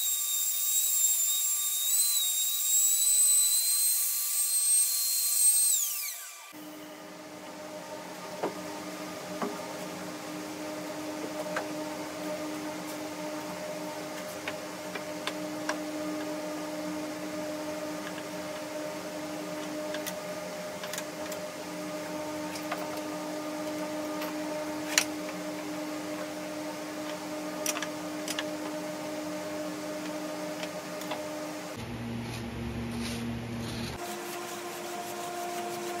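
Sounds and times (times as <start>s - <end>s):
steady mechanical hum: 6.6s - 36.0s.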